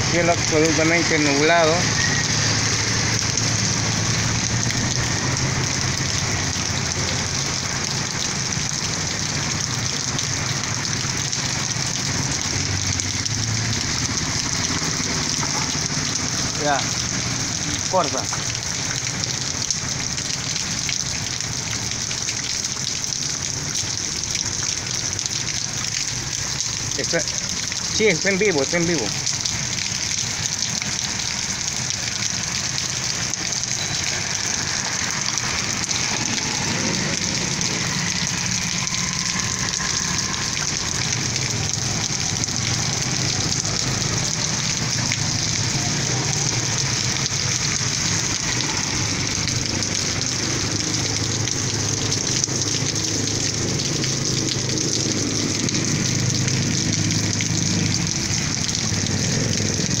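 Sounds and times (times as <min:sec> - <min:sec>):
heavy rain on street: 0:00.0 - 1:00.0.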